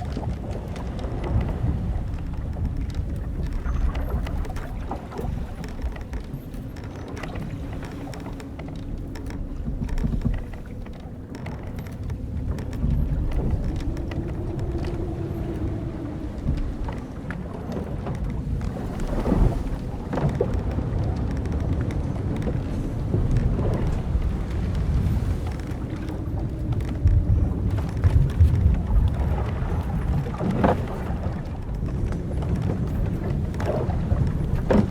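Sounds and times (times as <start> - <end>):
low rumble of wind and waves: 0.0 - 34.9
wooden ship timbers creaking: 0.0 - 34.9.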